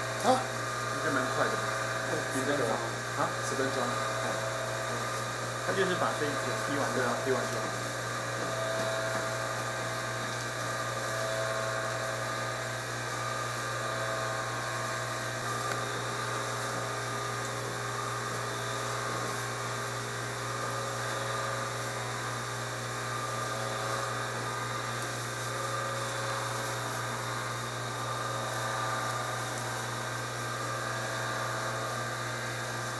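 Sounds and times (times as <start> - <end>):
small electric motor whining: 0.0 - 32.9.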